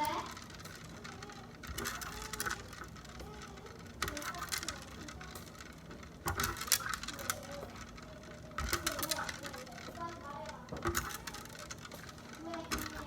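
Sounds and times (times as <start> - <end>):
faint voices: 0.0 - 13.0
rattling handling noise: 0.0 - 13.0.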